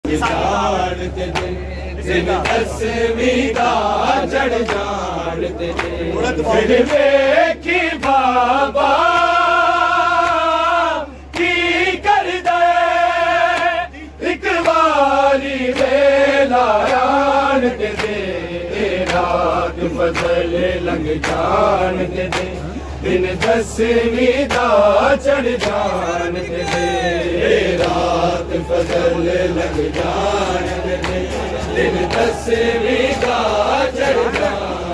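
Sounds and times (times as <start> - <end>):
men singing a lament: 0.0 - 34.9.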